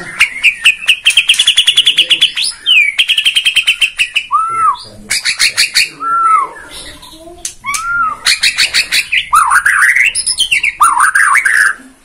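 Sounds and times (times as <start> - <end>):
bird singing trills and whistles: 0.0 - 11.9.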